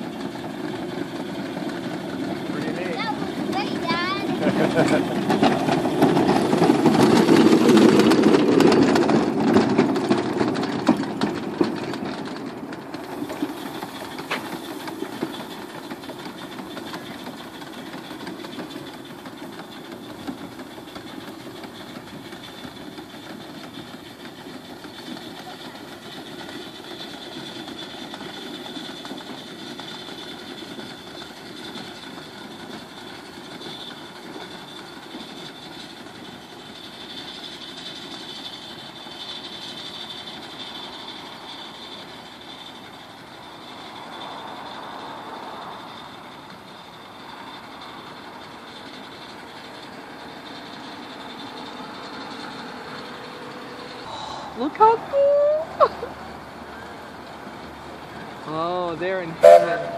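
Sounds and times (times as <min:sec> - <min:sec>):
steam engine running on rails: 0:00.0 - 0:59.9.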